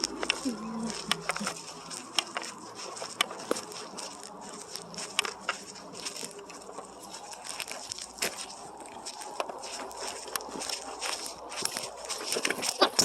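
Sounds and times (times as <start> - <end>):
footsteps crunching on twigs: 0.0 - 13.0.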